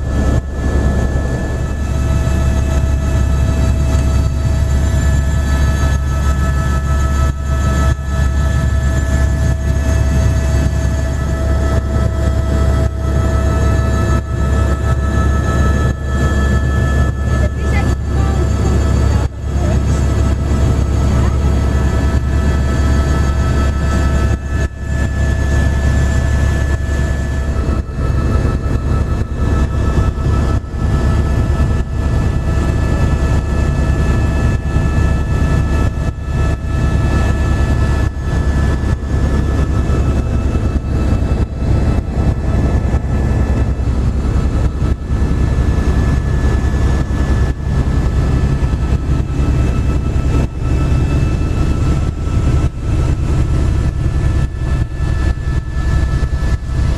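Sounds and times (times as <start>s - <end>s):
helicopter low drone: 0.0s - 56.9s
high-pitched whine: 0.0s - 56.9s.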